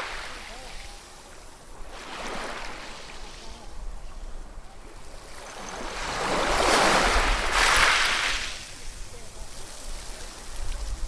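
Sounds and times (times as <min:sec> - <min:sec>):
sea waves washing and breaking: 0:00.0 - 0:11.0.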